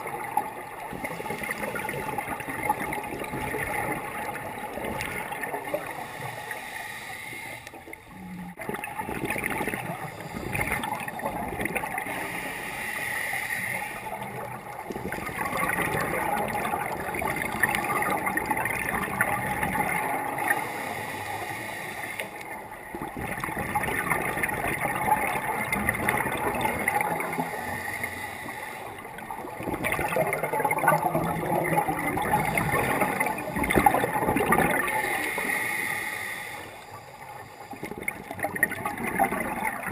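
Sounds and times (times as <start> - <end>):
underwater gurgling bubble bursts: 0.0 - 6.5, 7.6 - 12.8, 13.8 - 21.2, 21.8 - 35.8, 37.2 - 39.9.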